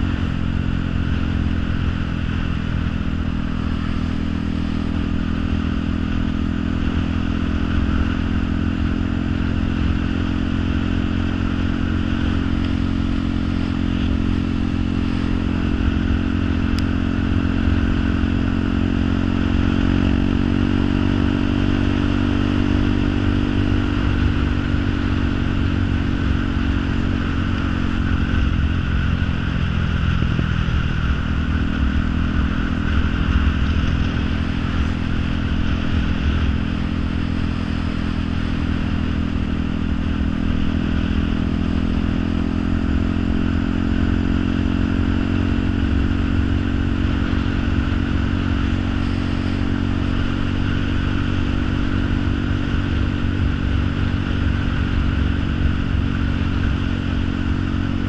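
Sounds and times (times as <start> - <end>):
motor drone: 0.0 - 58.0.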